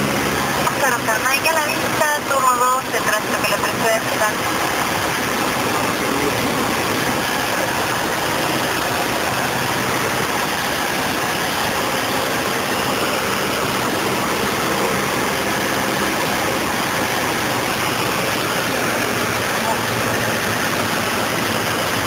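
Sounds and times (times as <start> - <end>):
light aircraft engine and propeller: 0.0 - 22.0.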